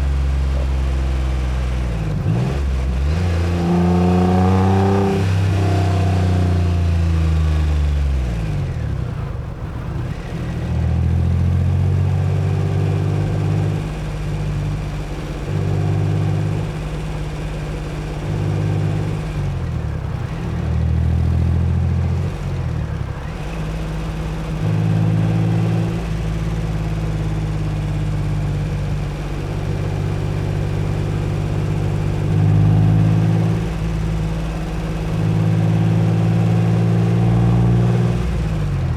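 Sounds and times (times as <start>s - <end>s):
car engine revving: 0.0s - 38.9s
low road rumble: 0.0s - 38.9s.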